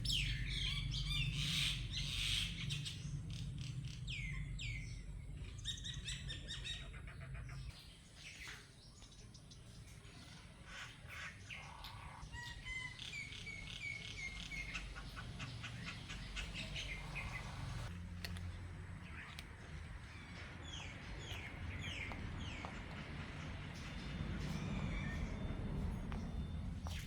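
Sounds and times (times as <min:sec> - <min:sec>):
small birds chirping and singing: 0:00.0 - 0:27.0.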